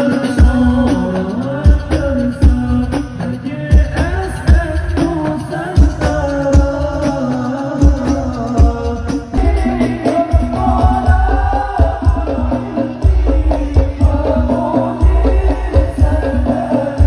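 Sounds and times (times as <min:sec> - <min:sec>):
heavy deep drum beat: 0:00.0 - 0:17.0
jingling tambourine percussion: 0:00.0 - 0:17.0
person singing devotional melody: 0:00.0 - 0:17.0.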